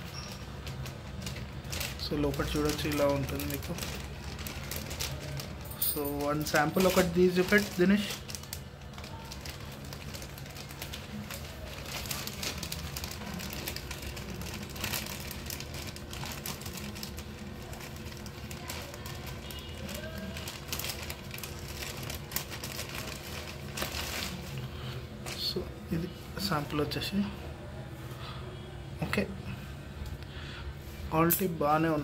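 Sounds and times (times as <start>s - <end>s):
plastic crinkling: 0.0s - 27.2s.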